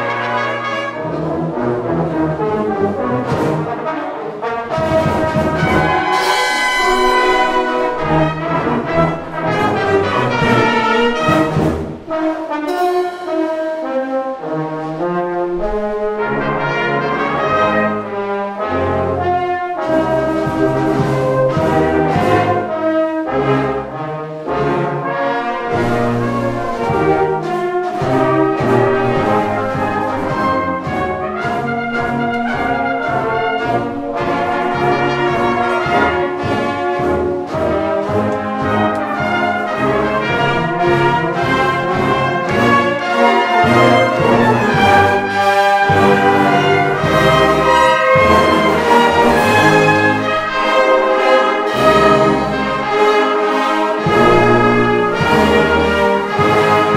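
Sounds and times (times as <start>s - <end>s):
brass band playing: 0.0s - 56.9s.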